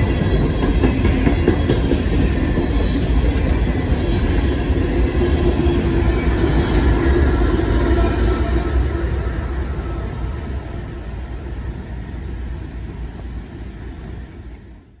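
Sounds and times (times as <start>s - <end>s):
freight locomotive rumbling past: 0.0s - 15.0s.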